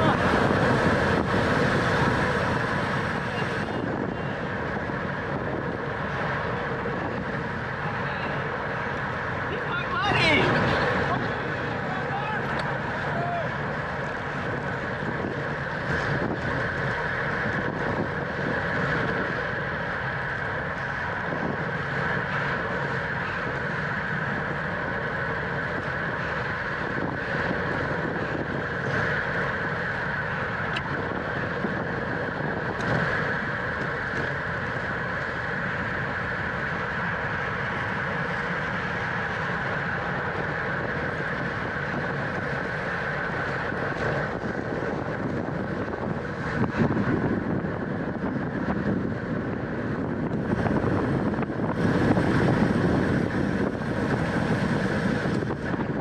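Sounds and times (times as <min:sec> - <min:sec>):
bicycle ride rumble: 0:00.0 - 0:56.0
wind rushing over microphone: 0:00.0 - 0:56.0.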